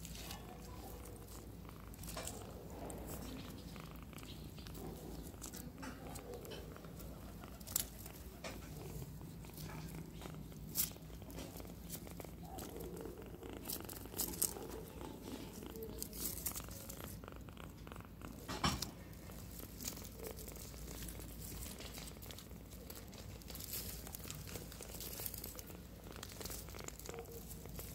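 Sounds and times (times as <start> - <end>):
dry grass and leaves rustling: 0.0 - 17.2, 18.3 - 27.9
kitten purring: 0.0 - 27.9.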